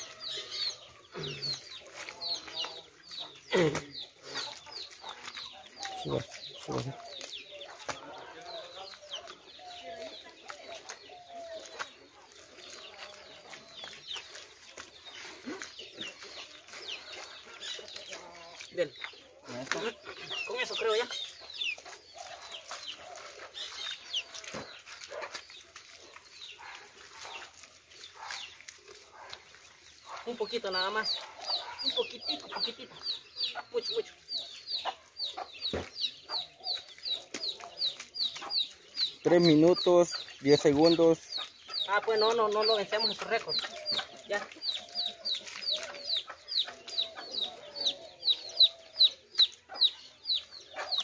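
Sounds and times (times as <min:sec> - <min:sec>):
chickens clucking: 0:00.0 - 0:51.0
small birds chirping: 0:00.0 - 0:51.0.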